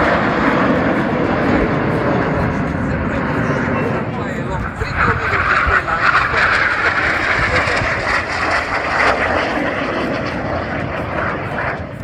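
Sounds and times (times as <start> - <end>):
jet aircraft flying past: 0.0 - 12.0.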